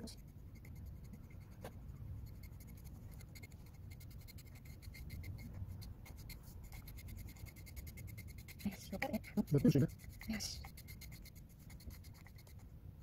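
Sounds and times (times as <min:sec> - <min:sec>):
brush scratching through dog fur: 0:00.0 - 0:12.6.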